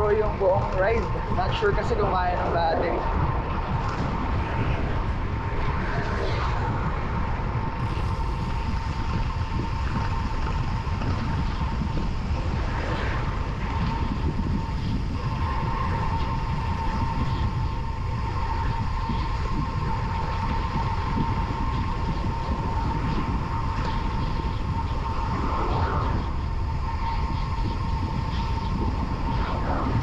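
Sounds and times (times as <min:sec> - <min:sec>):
thin steady whine: 0:00.0 - 0:30.0
wind buffeting microphone: 0:00.0 - 0:30.0.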